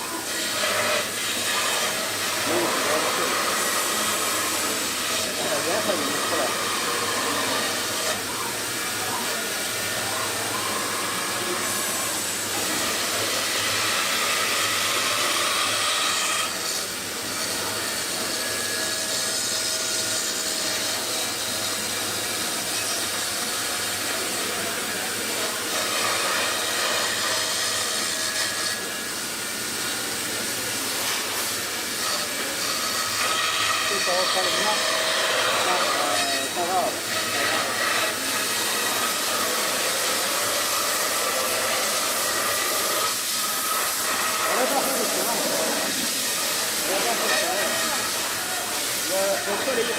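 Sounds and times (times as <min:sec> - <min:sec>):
router spindle milling foam: 0:00.0 - 0:49.9.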